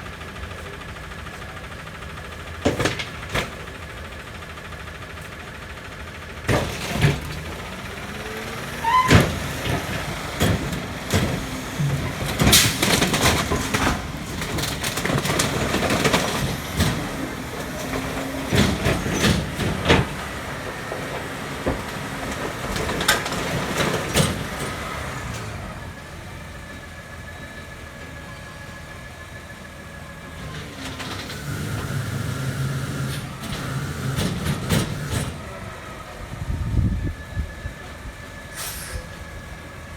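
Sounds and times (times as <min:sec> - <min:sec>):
diesel engine running: 0:00.0 - 0:39.9
items banging in garbage truck hopper: 0:02.1 - 0:39.9.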